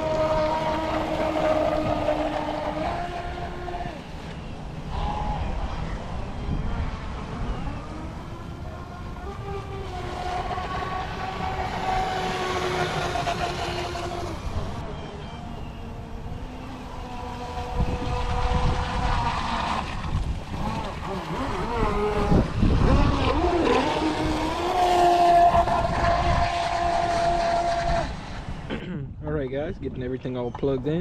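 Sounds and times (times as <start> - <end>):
electric boat motor whine: 0.0 - 28.7
water rumble: 0.0 - 31.0
wind: 0.0 - 31.0.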